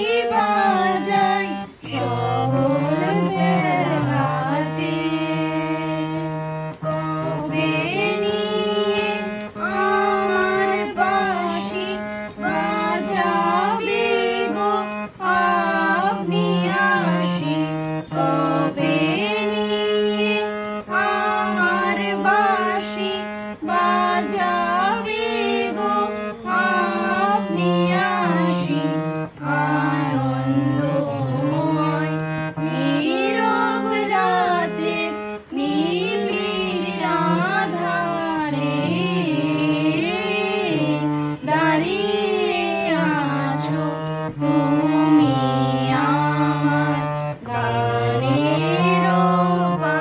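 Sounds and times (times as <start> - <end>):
boy singing: 0.0 - 50.0
harmonium: 0.0 - 50.0.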